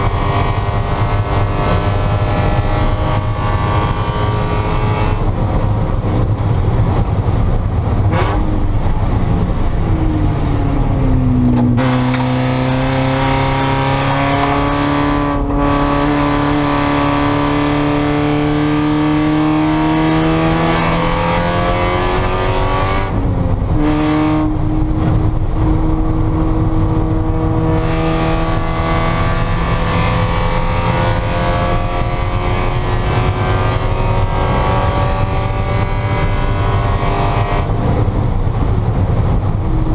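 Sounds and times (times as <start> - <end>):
race car engine accelerating: 0.0 - 39.9
wind and road noise: 0.0 - 39.9.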